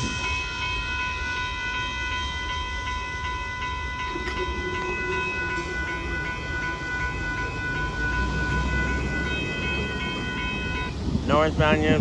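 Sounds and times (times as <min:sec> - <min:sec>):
railroad crossing bell ringing: 0:00.0 - 0:12.0.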